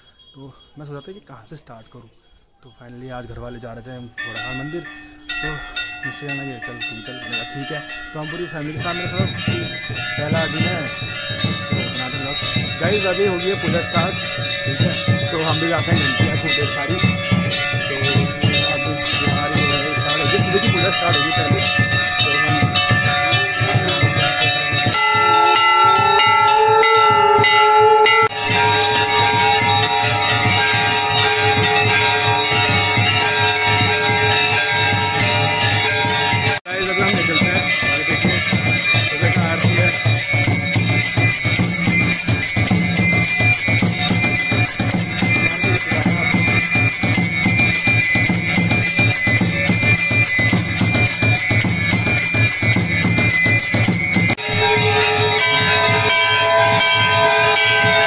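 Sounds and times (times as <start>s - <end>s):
temple bells ringing rapidly: 0.0s - 58.0s
drum beating steadily: 4.5s - 58.0s.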